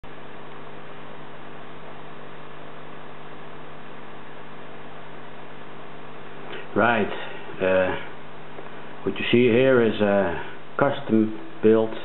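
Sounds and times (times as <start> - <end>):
constant hiss: 0.0 - 12.0
steady electrical hum: 0.0 - 12.0.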